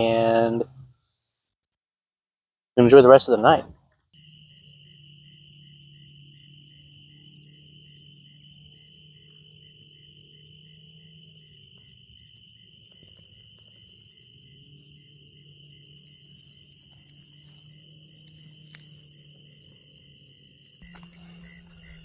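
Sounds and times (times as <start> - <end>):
crickets chirping chorus: 4.2 - 22.0
single cricket pulsing: 4.2 - 22.0.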